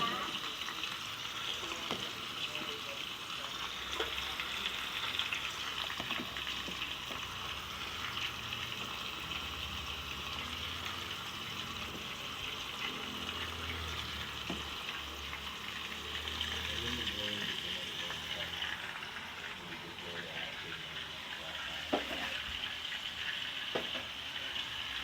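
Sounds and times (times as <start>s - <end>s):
squash sizzling in oil: 0.0s - 25.0s.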